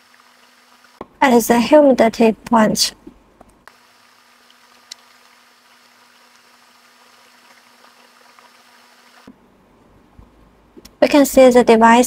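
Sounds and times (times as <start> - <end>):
faint steady hiss: 0.0 - 12.0
low steady hum: 0.0 - 12.0.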